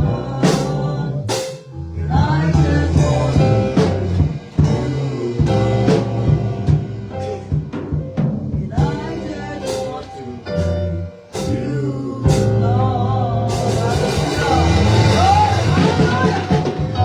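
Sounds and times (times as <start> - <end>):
gospel band playing: 0.0 - 17.0
wordless singing voice: 0.0 - 17.0.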